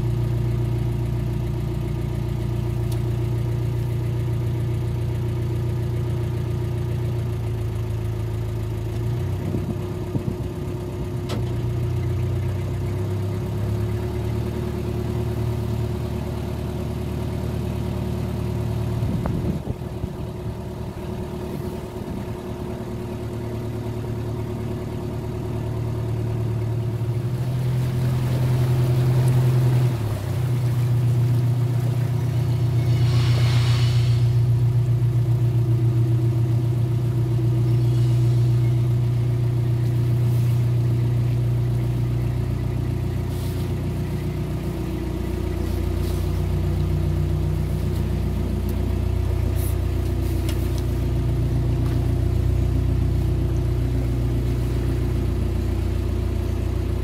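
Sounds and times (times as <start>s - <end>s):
diesel boat engine throbbing: 0.0s - 57.0s.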